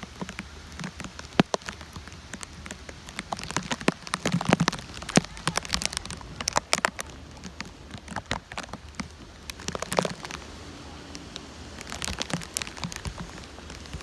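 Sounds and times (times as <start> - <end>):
rain hiss: 0.0 - 14.0
raindrops tapping near microphone: 0.0 - 14.0.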